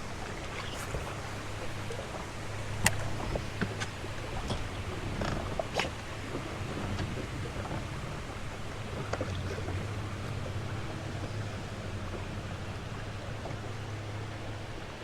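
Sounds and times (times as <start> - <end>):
water moving around a boat: 0.0 - 15.0.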